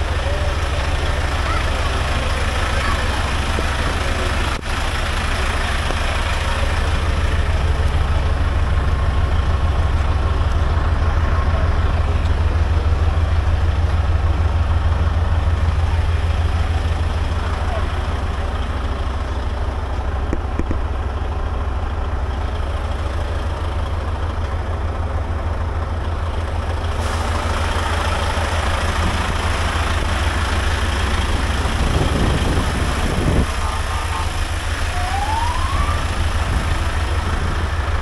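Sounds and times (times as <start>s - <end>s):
diesel engine idling rumble: 0.0s - 38.0s.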